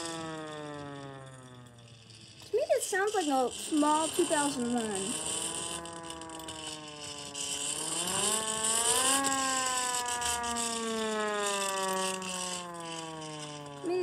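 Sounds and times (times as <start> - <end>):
hand-crank siren wailing: 0.0 - 14.0.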